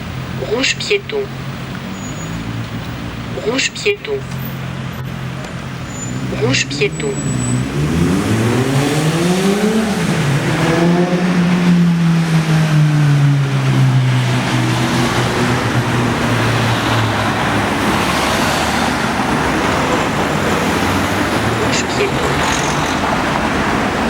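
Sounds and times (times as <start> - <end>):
tyre hiss of passing traffic: 0.0 - 24.0
vehicle engine passing: 0.0 - 24.0.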